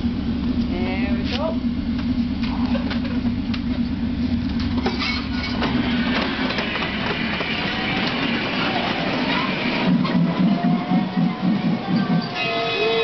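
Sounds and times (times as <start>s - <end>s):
miniature train engine hum: 0.0s - 13.0s
wheels clicking on rails: 2.0s - 13.0s.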